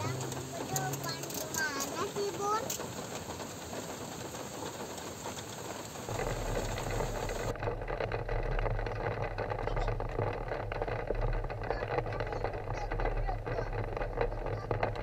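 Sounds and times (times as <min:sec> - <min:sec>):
car engine idling: 0:00.0 - 0:15.0
rain on car window: 0:00.0 - 0:15.0.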